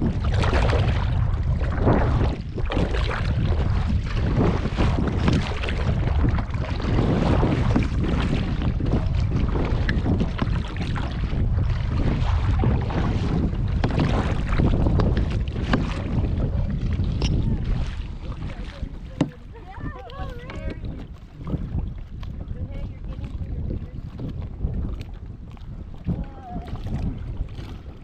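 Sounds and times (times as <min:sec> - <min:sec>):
water splashing and lapping: 0:00.0 - 0:28.0
wind buffeting microphone: 0:00.0 - 0:28.0.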